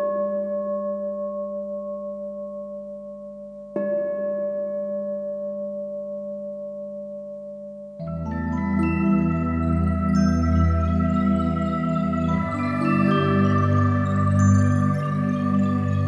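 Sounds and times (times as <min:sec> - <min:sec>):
bell-like metallic tone ringing: 0:00.0 - 0:16.0.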